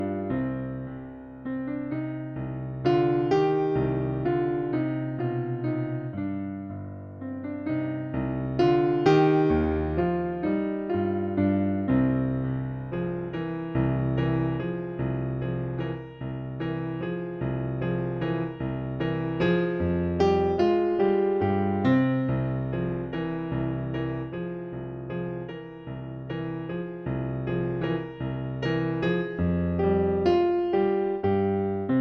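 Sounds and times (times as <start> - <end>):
electric piano melody: 0.0 - 32.0.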